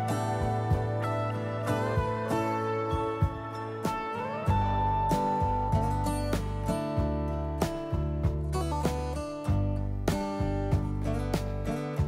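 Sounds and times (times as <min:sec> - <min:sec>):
plucked strings music with beat: 0:00.0 - 0:12.0.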